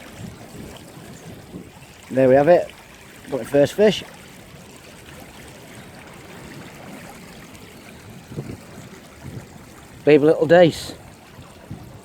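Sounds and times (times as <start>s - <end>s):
river water rushing and trickling: 0.0s - 12.0s.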